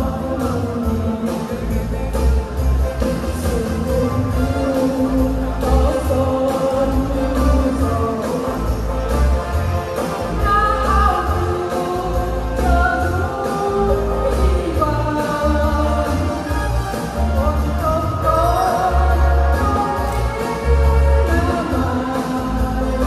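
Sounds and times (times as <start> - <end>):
backing music with pulsing bass: 0.0 - 23.0
person singing: 0.0 - 23.0.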